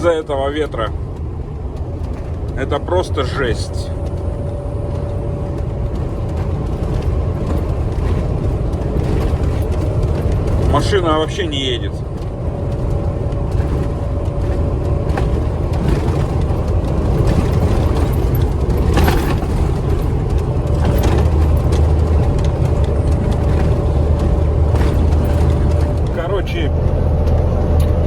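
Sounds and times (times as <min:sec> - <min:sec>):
road and wind noise: 0:00.0 - 0:28.0
truck diesel engine droning: 0:00.0 - 0:28.0.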